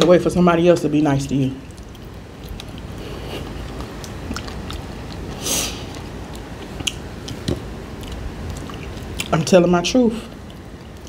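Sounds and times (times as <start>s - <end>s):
chewing fried fish: 1.6s - 9.6s, 10.2s - 11.0s.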